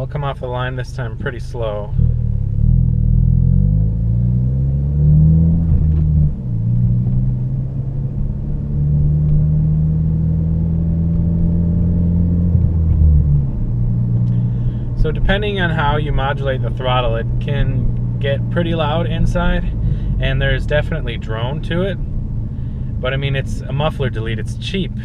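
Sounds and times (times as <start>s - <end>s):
car engine inside cabin: 0.0s - 25.0s.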